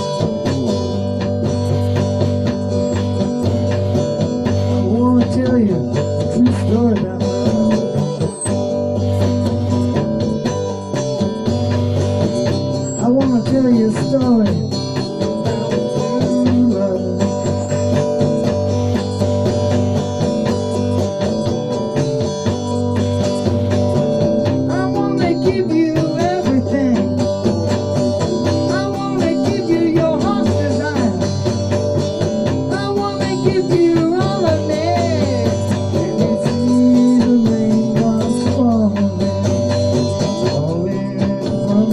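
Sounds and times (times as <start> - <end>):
blues electric guitar: 0.0 - 41.9
low accompaniment: 0.0 - 41.9.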